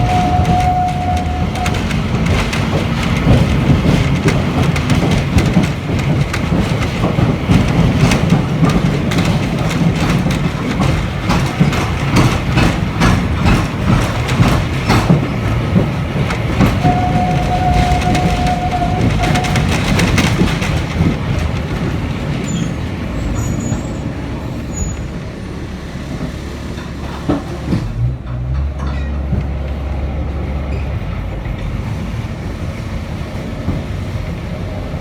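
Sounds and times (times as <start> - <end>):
small steam train rumbling on rails: 0.0 - 35.0.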